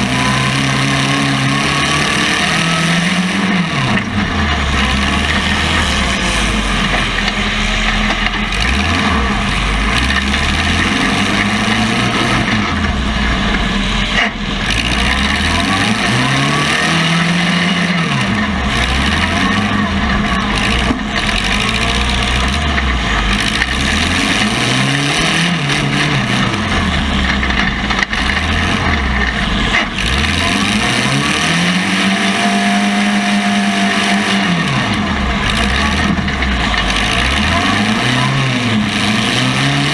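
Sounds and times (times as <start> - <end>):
car engines revving: 0.0 - 39.9
constant loud din: 0.0 - 39.9.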